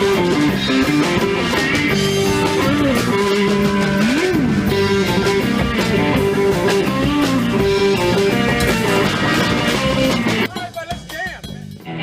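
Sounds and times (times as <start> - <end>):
electric guitar melody: 0.0 - 10.5, 11.7 - 12.0
bass guitar: 0.0 - 12.0
drums: 0.0 - 12.0.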